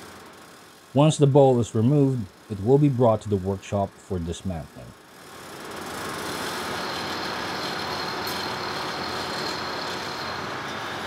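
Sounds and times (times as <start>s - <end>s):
engine room machinery running: 0.0s - 11.0s
faint high steady whine: 0.0s - 11.0s.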